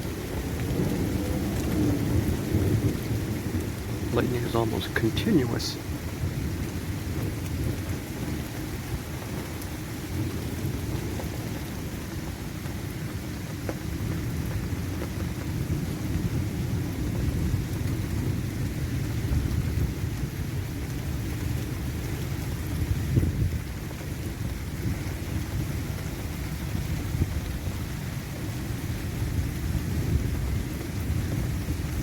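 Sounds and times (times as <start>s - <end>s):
low rumbling thunderstorm roar: 0.0s - 32.0s.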